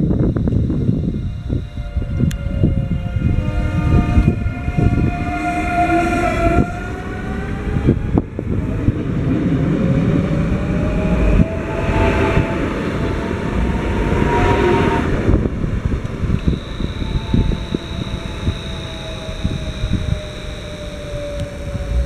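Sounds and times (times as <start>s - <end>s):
electric train motors whining: 0.0s - 22.0s
wheels rumbling on rails: 0.0s - 22.0s.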